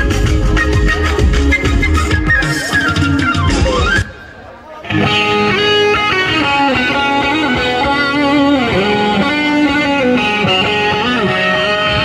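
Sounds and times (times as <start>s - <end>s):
loud guitar music: 0.0s - 12.0s.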